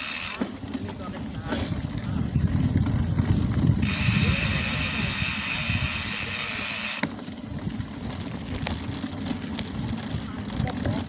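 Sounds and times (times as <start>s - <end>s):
bike rolling over dirt trail: 0.0s - 11.0s
wind buffeting microphone: 0.9s - 11.0s.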